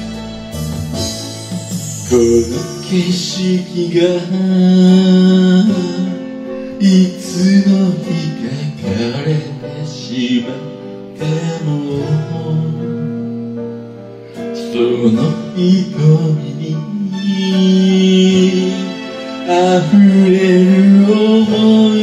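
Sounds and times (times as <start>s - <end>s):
acoustic guitar: 0.0s - 22.0s
man singing: 1.7s - 13.5s, 14.4s - 22.0s.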